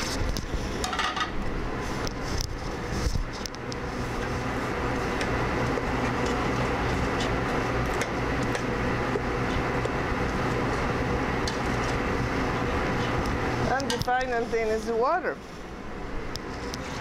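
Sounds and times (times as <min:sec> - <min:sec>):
exhaust fan humming: 0:00.0 - 0:17.0.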